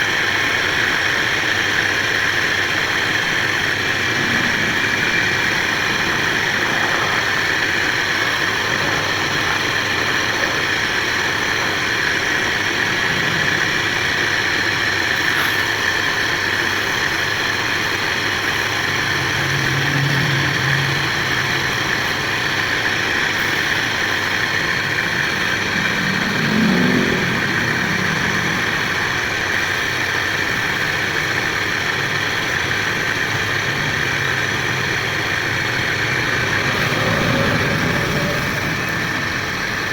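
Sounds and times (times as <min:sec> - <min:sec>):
wood lathe humming and whining: 0:00.0 - 0:39.9.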